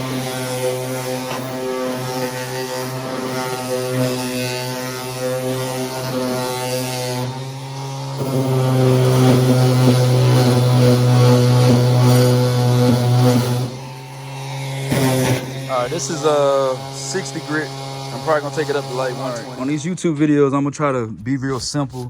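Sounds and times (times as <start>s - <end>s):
power sander on rusty metal: 0.0s - 20.0s.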